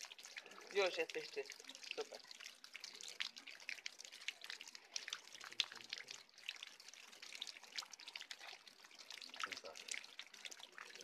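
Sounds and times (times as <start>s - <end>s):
light rain on puddles: 0.0s - 11.0s.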